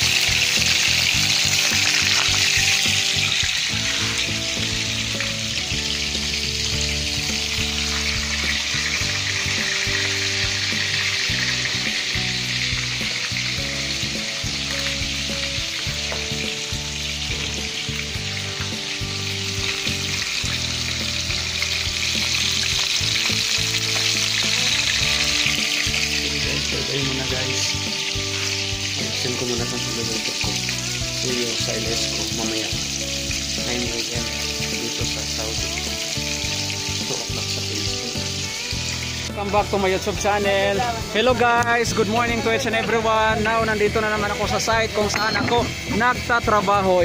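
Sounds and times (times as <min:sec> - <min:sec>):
fish sizzling in hot oil: 0:00.0 - 0:47.0
low background music: 0:00.0 - 0:47.0.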